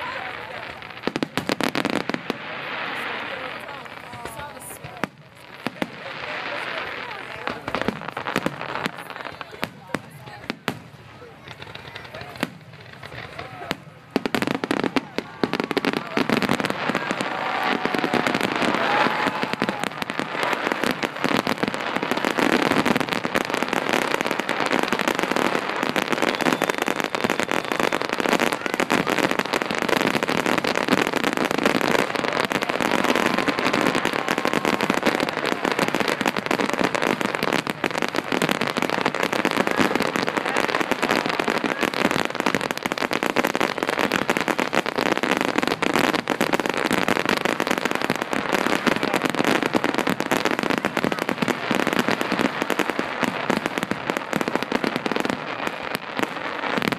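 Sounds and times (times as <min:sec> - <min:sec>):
fireworks bursting and crackling: 0:00.0 - 0:56.9.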